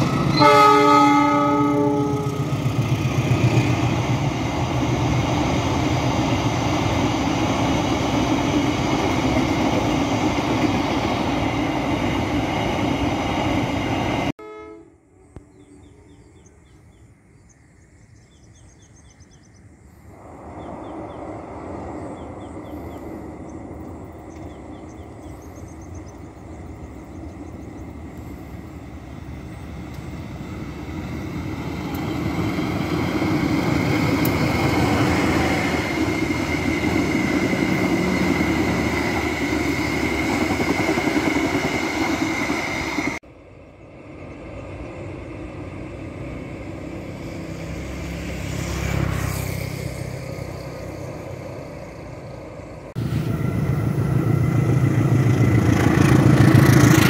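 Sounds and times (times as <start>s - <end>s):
train wheels rumbling on rails: 0.0s - 14.3s, 20.1s - 57.0s
diesel locomotive engine rumble: 0.0s - 57.0s.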